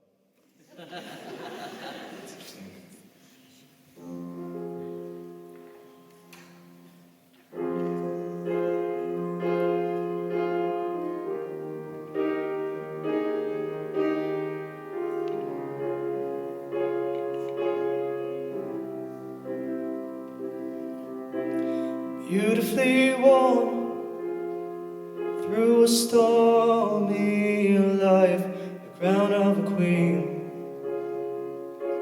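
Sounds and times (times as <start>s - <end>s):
piano playing slow chords: 3.9s - 32.0s.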